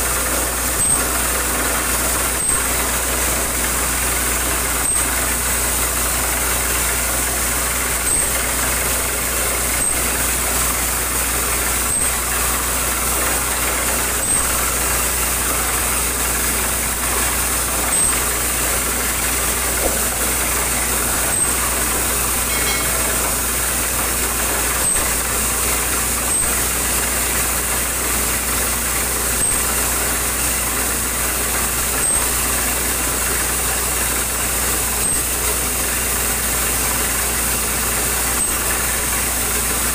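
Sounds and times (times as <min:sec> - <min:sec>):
drilling rig and compressor running: 0:00.0 - 0:39.9.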